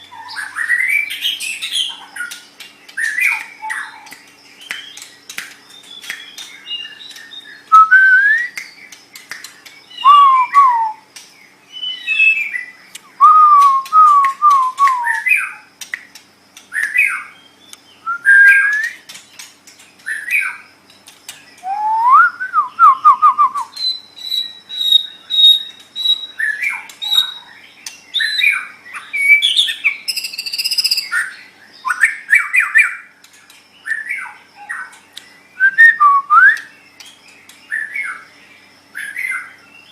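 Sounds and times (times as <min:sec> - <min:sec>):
songbird whistling and trilling: 0:00.0 - 0:15.7, 0:16.7 - 0:19.1, 0:21.4 - 0:33.1, 0:33.7 - 0:39.9.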